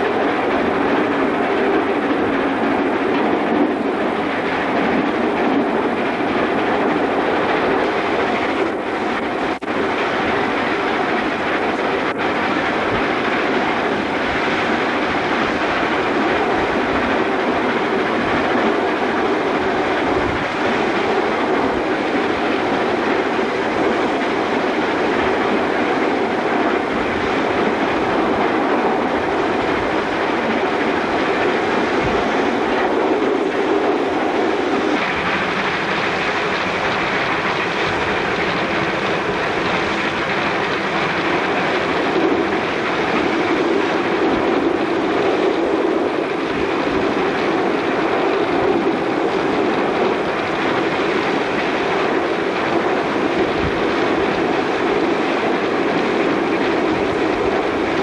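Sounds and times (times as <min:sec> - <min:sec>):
steam locomotive cab noise: 0:00.0 - 0:58.0.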